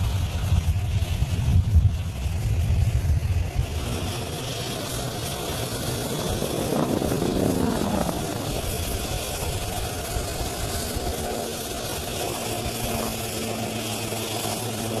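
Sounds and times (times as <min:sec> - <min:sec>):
helicopters flying overhead: 0:00.0 - 0:15.0.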